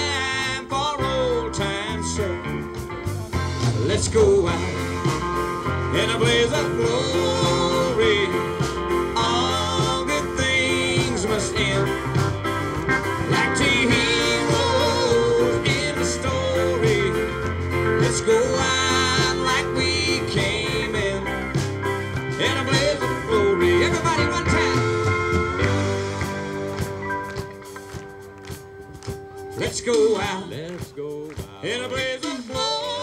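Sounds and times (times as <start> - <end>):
bass guitar: 0.0 - 33.0
drums: 0.0 - 33.0
electric guitar: 0.0 - 33.0.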